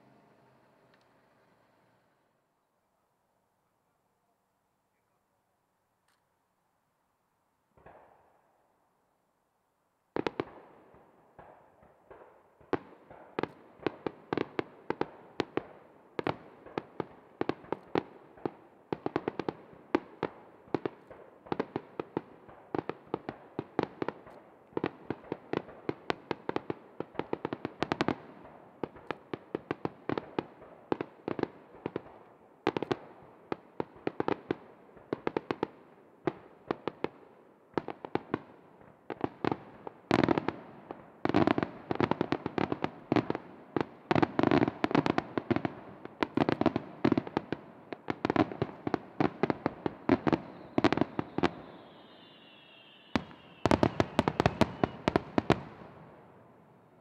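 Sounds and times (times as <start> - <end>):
fireworks bursting with sharp bangs: 7.8 - 8.4, 10.1 - 56.8.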